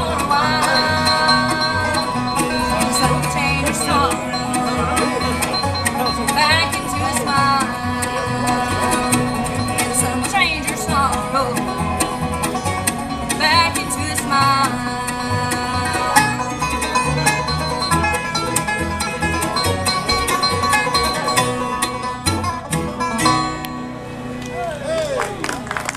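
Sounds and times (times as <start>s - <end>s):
banjo picking: 0.0s - 24.8s
bluegrass band playing: 0.0s - 25.9s.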